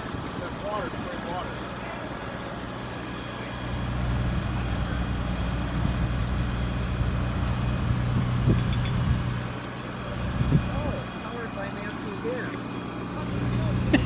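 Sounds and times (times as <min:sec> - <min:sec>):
heavy truck engine humming: 0:00.0 - 0:14.0.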